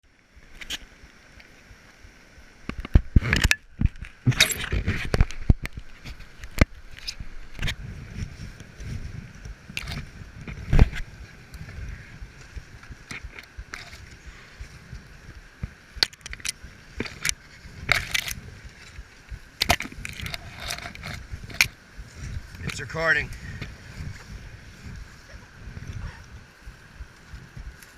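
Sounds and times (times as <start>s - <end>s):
water sloshing and gurgling: 0.4s - 27.9s.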